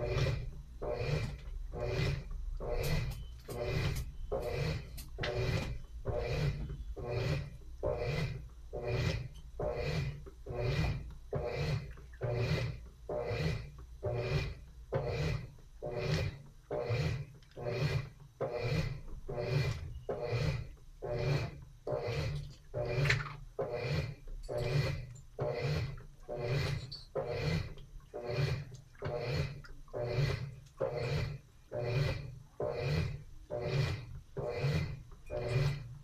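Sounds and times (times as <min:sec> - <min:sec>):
washing machine agitating: 0:00.0 - 0:36.0.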